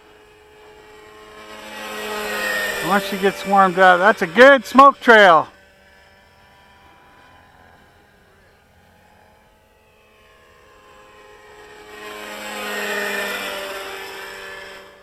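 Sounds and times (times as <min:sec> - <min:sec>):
model helicopter engine: 0:00.0 - 0:15.0.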